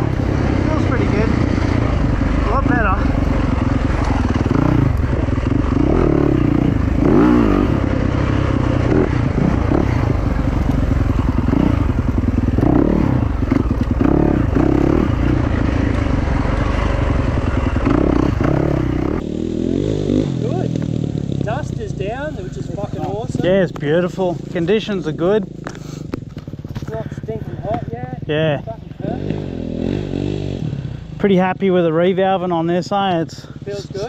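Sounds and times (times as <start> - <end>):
motorcycle engine revving: 0.0 - 34.0
motorcycle rattling: 0.0 - 34.0.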